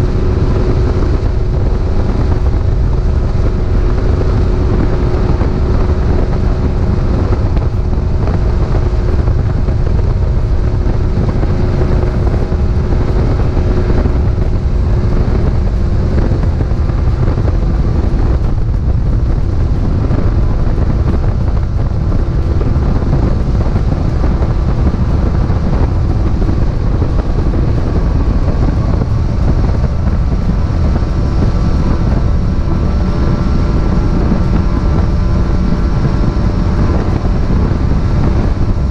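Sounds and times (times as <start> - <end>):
outboard motor running: 0.0 - 38.9
rushing wind: 0.0 - 38.9
water noise: 0.0 - 38.9.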